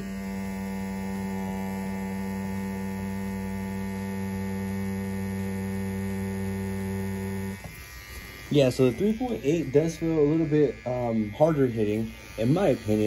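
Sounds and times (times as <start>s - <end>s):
tattoo machine humming: 0.0s - 13.0s.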